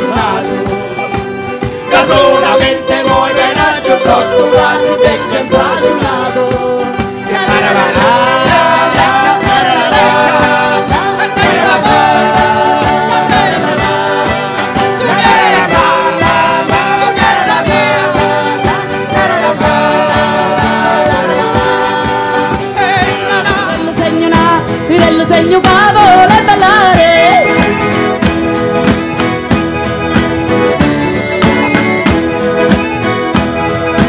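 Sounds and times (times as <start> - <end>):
fast percussion beat: 0.0 - 34.0
folk singing: 0.0 - 34.0.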